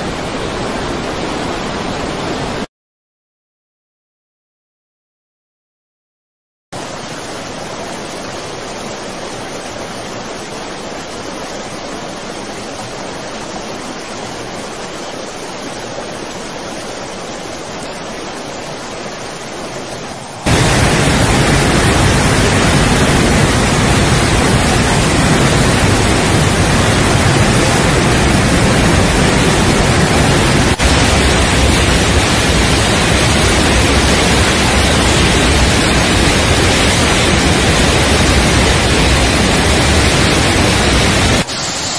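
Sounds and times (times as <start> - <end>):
floodwater rushing: 6.8 - 41.9.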